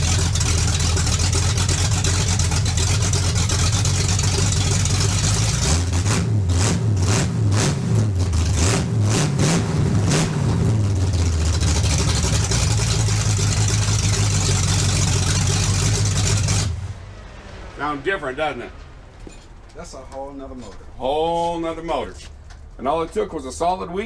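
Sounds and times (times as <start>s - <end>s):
vee eight engine revving and idling: 0.0s - 21.4s.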